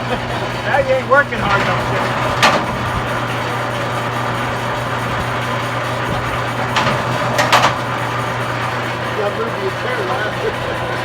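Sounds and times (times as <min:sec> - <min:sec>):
wire stripping machine motor hum: 0:00.0 - 0:11.0.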